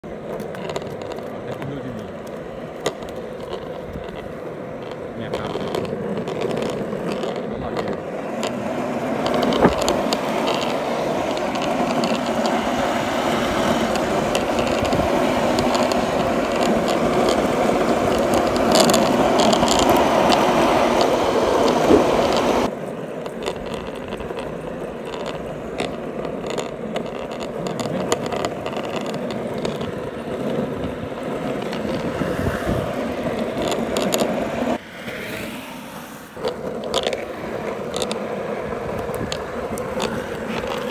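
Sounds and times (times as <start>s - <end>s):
skateboard clicks over cracks: 0.0s - 40.9s
skateboard wheels rolling on asphalt: 0.0s - 40.9s.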